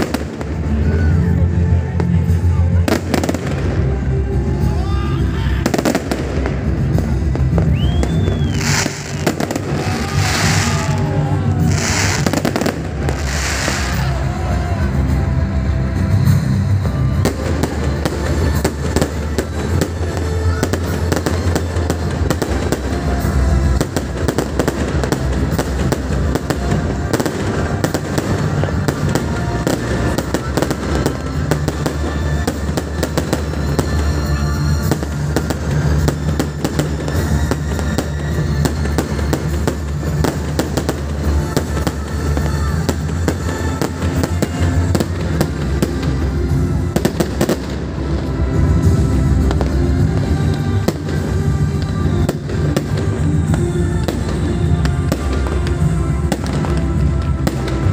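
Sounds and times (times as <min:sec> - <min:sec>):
fireworks bursting and crackling: 0:00.0 - 0:57.9
music playing: 0:00.0 - 0:57.9.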